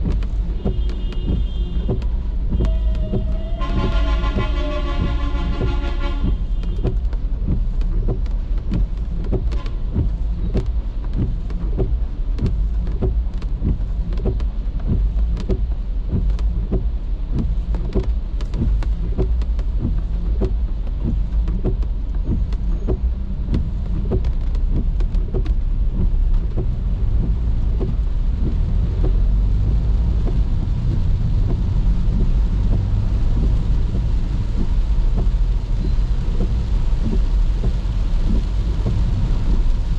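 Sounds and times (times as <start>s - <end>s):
rain hissing on car: 0.0s - 39.9s
road rumble inside car: 0.0s - 39.9s.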